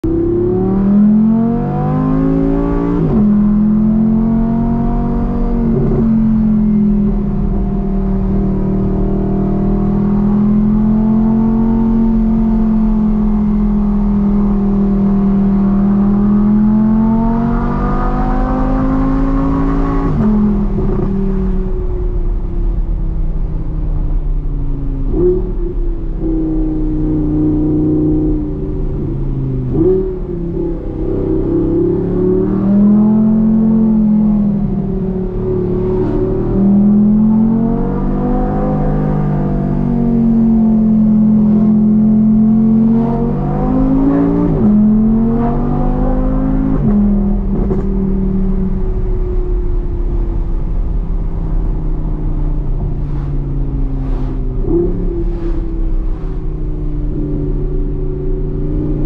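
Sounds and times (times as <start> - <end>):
car engine revving and cruising: 0.0 - 59.0.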